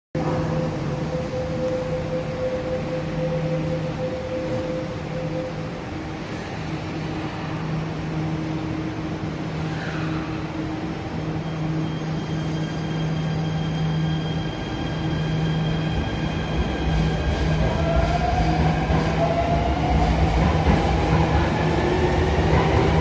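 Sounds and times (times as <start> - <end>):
electric train hum: 0.2 - 23.0.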